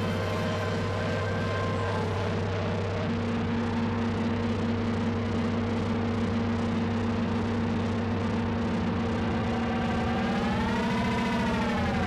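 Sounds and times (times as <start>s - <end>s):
low sustained electronic tones: 0.0s - 12.0s.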